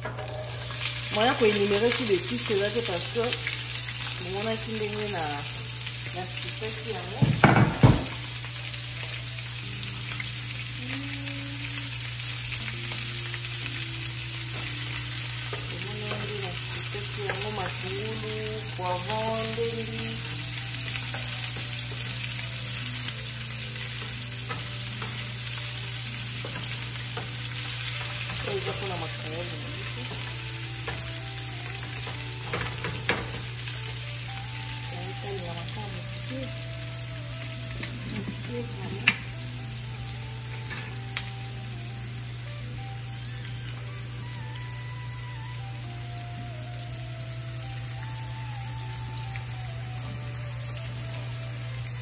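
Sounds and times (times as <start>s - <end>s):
vegetables sizzling in frying pan: 0.0s - 52.0s.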